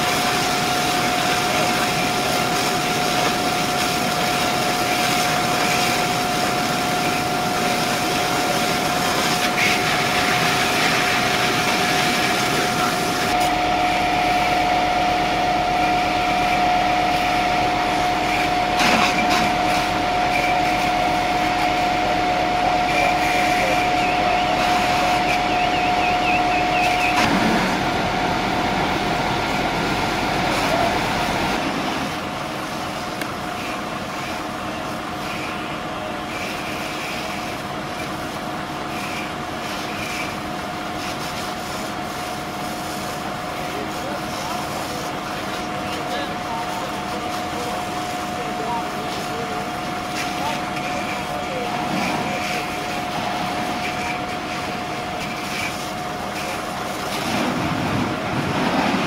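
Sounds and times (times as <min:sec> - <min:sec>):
constant whine: 0:00.0 - 0:59.0
fire engine pump hum: 0:00.0 - 0:59.0.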